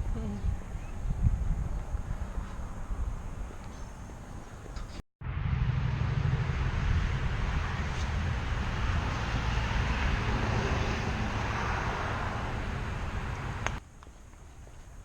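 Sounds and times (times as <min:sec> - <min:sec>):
road vehicle rumble: 0:00.0 - 0:13.8.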